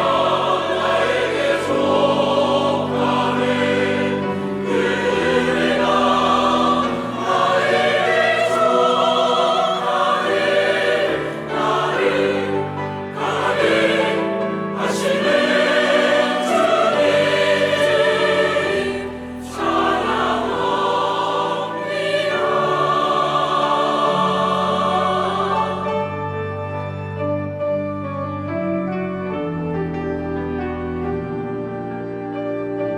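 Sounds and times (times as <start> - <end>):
church choir singing: 0.0 - 32.9
instrumental accompaniment: 0.0 - 32.9.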